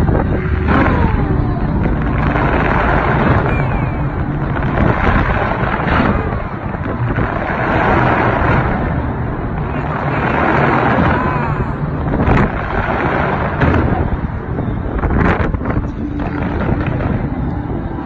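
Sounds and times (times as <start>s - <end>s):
fireworks bangs and crackle: 0.0s - 18.0s.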